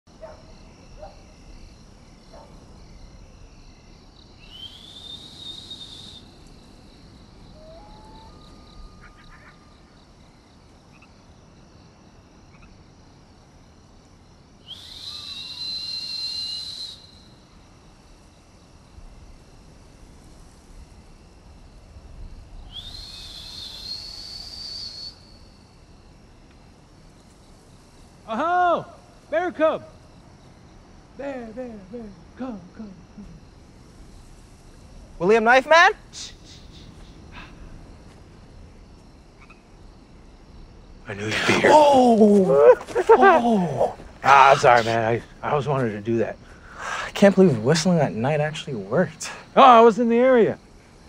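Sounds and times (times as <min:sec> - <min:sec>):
night insects chorus: 0:00.1 - 0:51.0.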